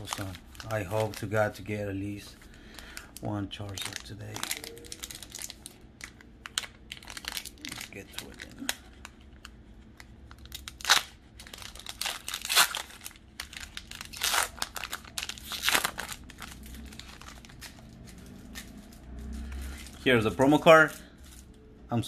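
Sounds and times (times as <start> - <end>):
foil wrapper tearing and crinkling: 0.0 - 21.4.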